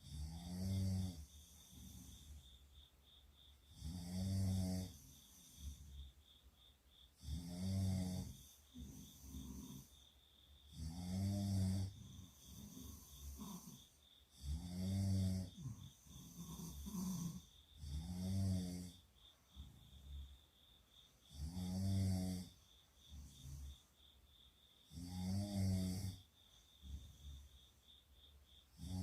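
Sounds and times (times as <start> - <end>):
girls snoring: 0.0 - 2.6, 3.7 - 6.1, 7.2 - 10.1, 10.7 - 20.4, 21.2 - 23.8, 24.9 - 27.7, 28.7 - 29.0.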